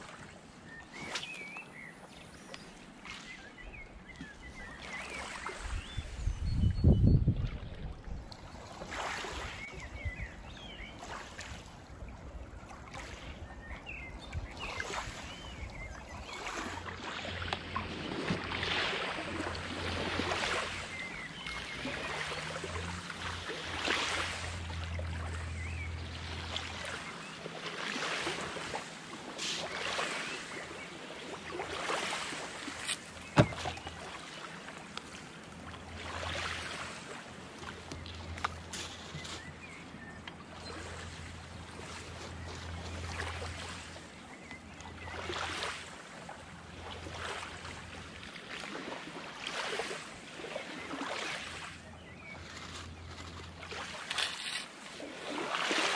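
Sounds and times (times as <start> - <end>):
small waves lapping: 0.0 - 6.4, 7.3 - 55.9.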